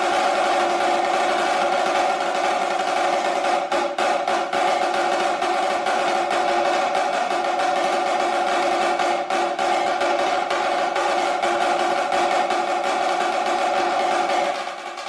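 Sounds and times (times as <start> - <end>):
accented snare drum strokes: 0.0 - 15.0
snare drum roll: 0.0 - 15.0.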